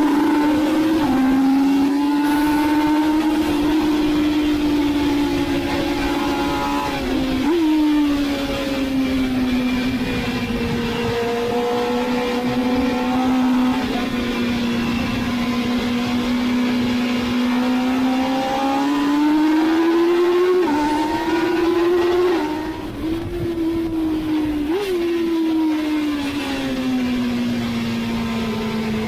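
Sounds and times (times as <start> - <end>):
race engine at high revs: 0.0 - 29.0
riding wind: 0.0 - 29.0.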